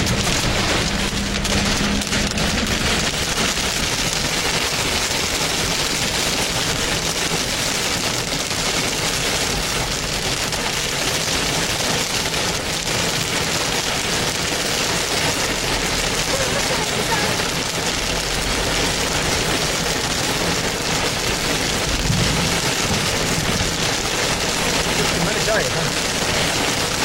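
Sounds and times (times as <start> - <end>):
heavy rain on hard surface: 0.0 - 27.0.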